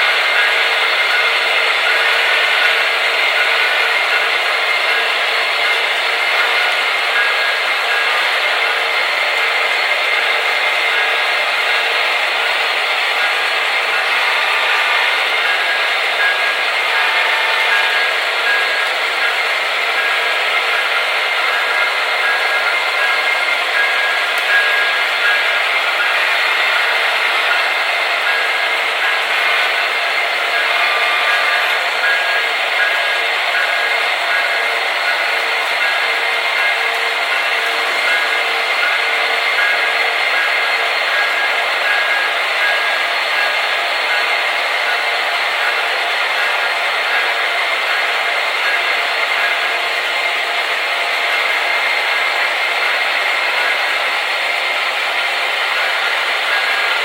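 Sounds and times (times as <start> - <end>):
model locomotive engine drone: 0.0 - 57.0.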